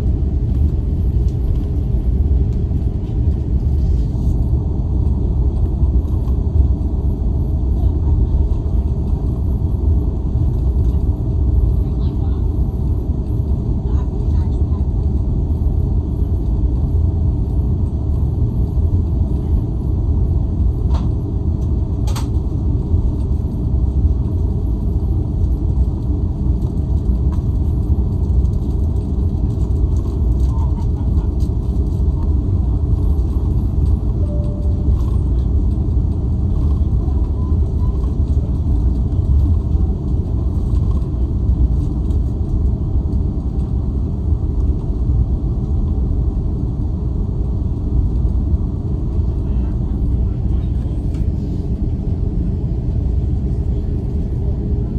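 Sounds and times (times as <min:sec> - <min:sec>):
aircraft cabin rumble: 0:00.0 - 0:54.9.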